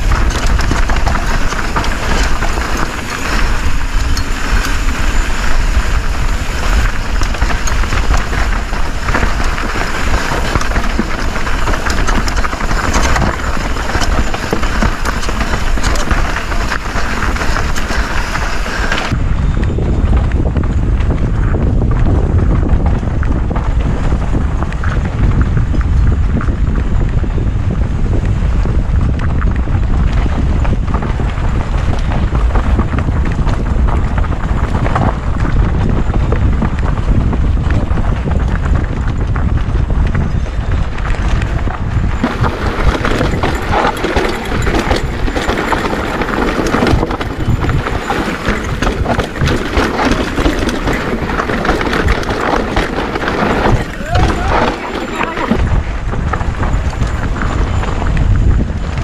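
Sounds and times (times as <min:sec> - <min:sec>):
bike tyres crunching on dirt: 0:00.0 - 0:59.0
wind buffeting microphone: 0:00.0 - 0:59.0.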